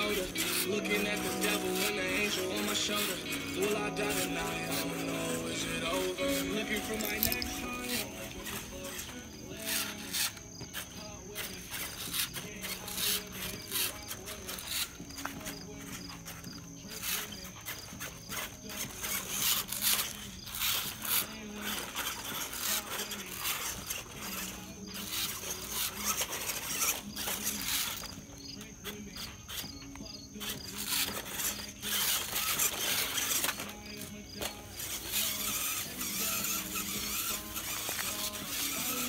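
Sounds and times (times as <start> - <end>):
song with singing: 0.0 - 17.5, 18.5 - 39.0
toy car motors whining: 0.0 - 39.0.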